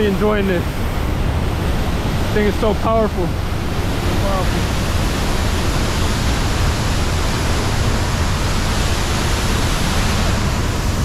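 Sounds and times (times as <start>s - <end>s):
waterfall crashing into pool: 0.0s - 11.0s.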